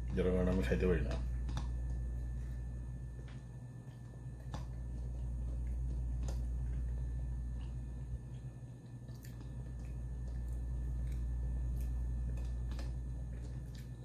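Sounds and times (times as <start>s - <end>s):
quiet eating sounds: 0.0s - 14.0s
steady low hum: 0.0s - 14.0s.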